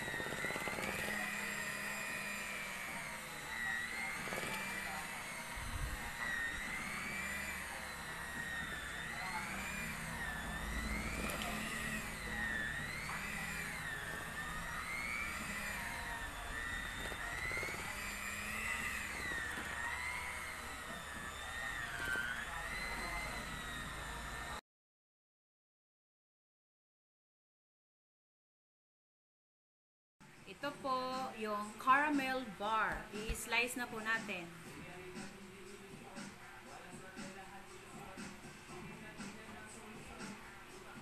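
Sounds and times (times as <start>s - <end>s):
electric mixer motor whine: 0.0s - 24.6s, 30.2s - 41.0s.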